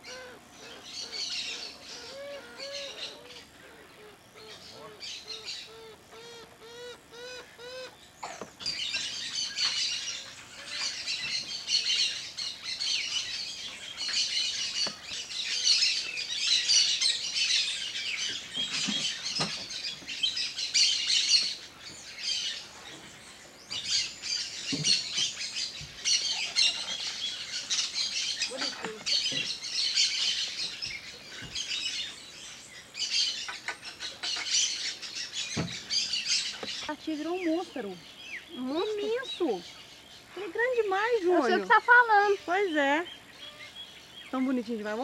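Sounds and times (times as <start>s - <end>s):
birds chirping in chorus: 0.0s - 45.0s.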